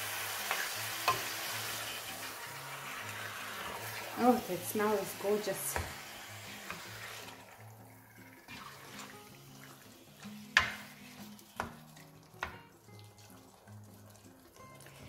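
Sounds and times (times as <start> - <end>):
faint sizzle of frying: 0.0 - 15.0.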